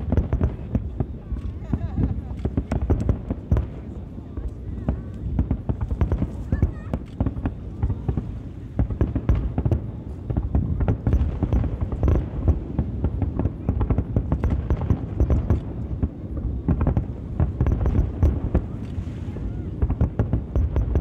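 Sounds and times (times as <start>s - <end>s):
fireworks booming and crackling: 0.0s - 21.0s.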